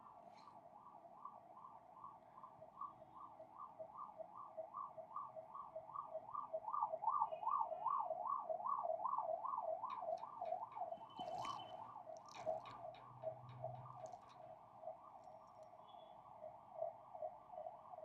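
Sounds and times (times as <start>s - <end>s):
emergency siren yelping: 1.6s - 18.0s.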